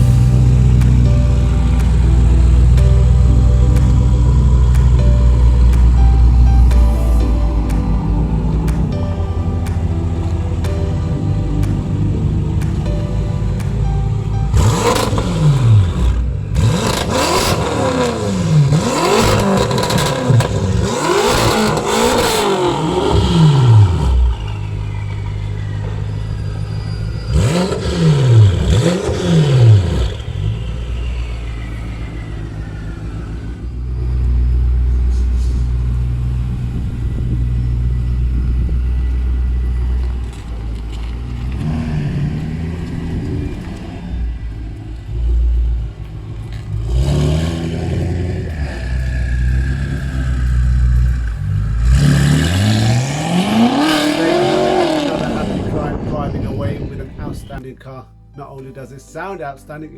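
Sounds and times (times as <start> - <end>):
car engine revving and idling: 0.0 - 57.6.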